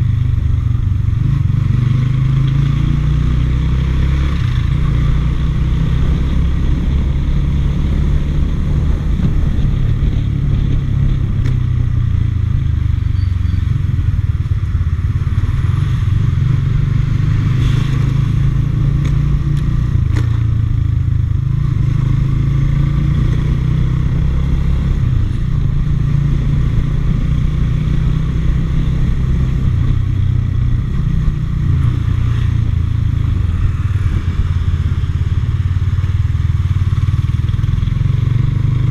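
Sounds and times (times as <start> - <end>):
motorcycle engine rumbling: 0.0 - 38.9.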